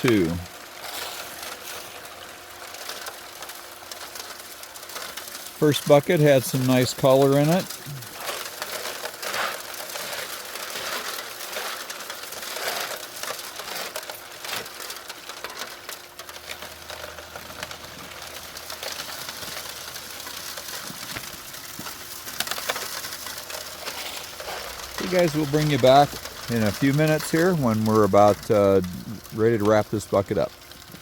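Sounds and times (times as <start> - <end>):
gravel clicking and rattling: 0.0 - 31.0
pump humming: 0.0 - 31.0
water washing through sluice: 0.0 - 31.0.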